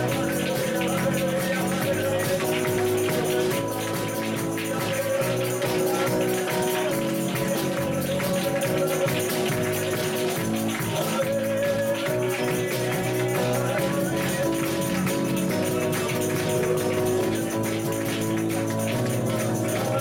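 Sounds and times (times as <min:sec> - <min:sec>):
live band playing: 0:00.0 - 0:20.0
tambourine jingling: 0:00.0 - 0:20.0.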